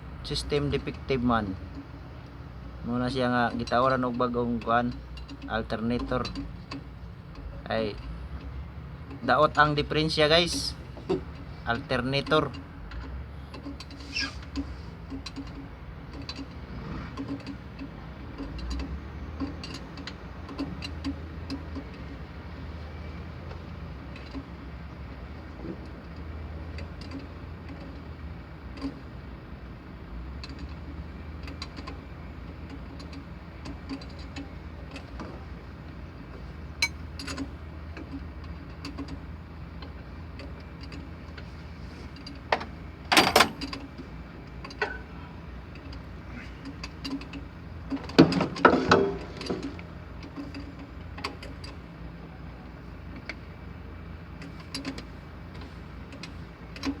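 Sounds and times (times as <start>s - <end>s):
low engine hum: 0.0s - 57.0s
light clicks of tools: 3.0s - 16.6s, 17.2s - 29.2s, 30.3s - 53.5s, 54.4s - 57.0s.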